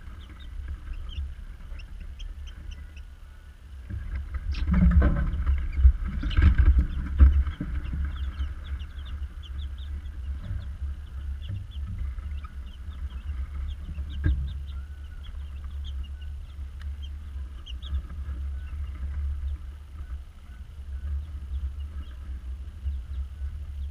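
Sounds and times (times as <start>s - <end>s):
chicks peeping: 0.0s - 23.9s
steady low rumble: 0.0s - 23.9s.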